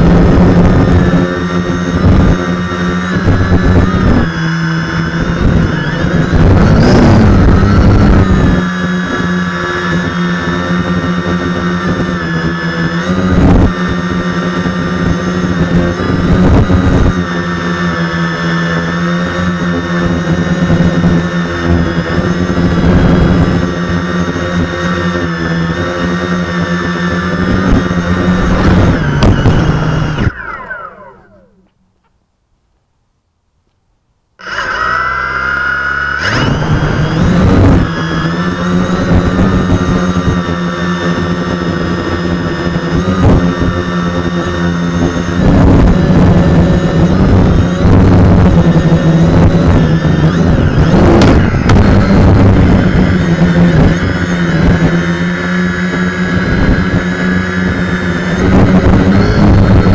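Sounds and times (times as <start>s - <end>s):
drone propellers buzzing: 0.0s - 32.2s, 34.4s - 59.9s.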